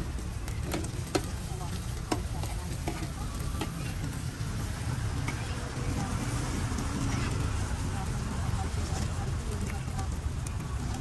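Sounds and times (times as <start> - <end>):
food sizzling on metal griddle: 0.0 - 11.0
road traffic rumble: 0.0 - 11.0.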